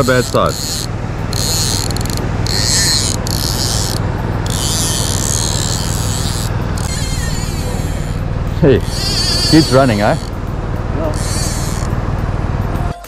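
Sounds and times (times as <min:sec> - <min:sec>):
fly reel drag buzzing: 0:00.0 - 0:12.0.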